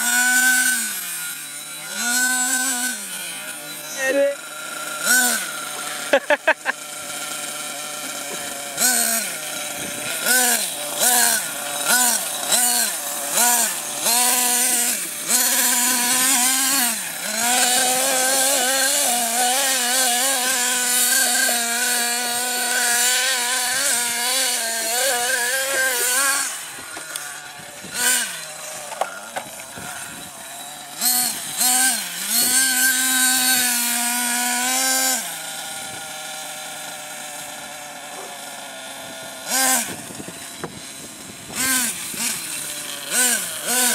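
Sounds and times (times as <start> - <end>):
small nitro engine revving: 0.0 - 43.9.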